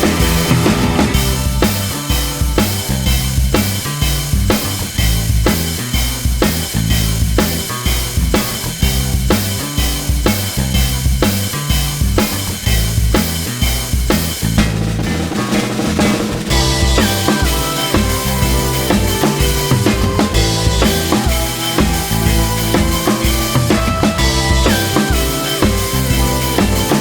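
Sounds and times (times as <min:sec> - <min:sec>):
drum kit beat: 0:00.0 - 0:27.0
guitar: 0:00.0 - 0:27.0.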